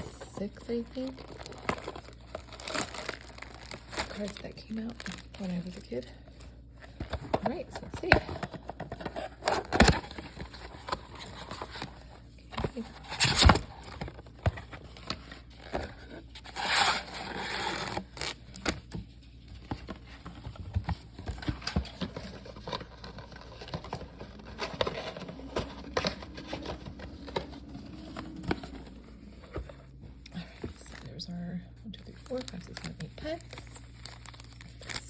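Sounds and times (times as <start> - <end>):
rustling cardboard and packs: 0.0 - 31.1, 32.0 - 35.0.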